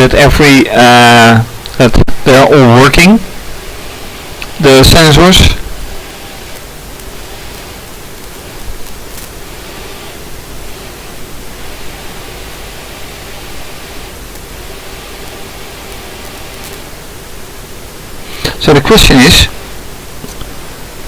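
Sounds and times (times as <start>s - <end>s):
faint low hum: 0.0s - 21.0s
steady hiss-like noise: 0.0s - 21.0s.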